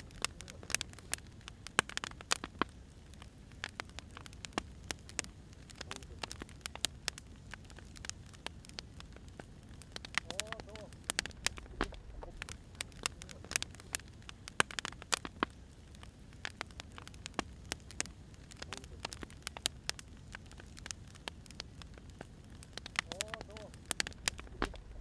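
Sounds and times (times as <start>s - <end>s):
firewood crackling and popping: 0.0s - 25.0s
low hiss: 0.0s - 25.0s.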